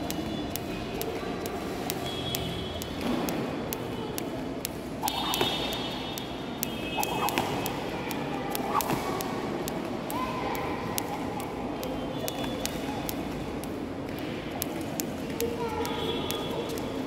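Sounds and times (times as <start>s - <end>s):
skipping rope ticking on floor: 0.0s - 17.0s.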